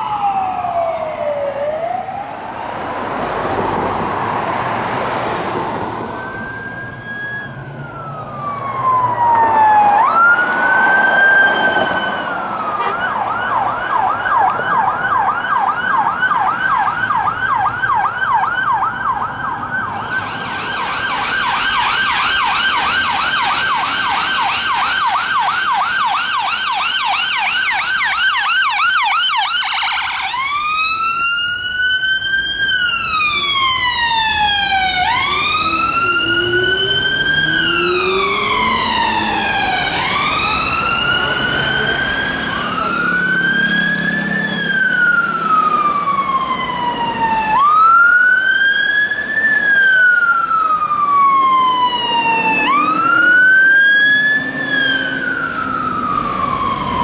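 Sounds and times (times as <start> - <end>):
ambulance siren: 0.0 - 57.0.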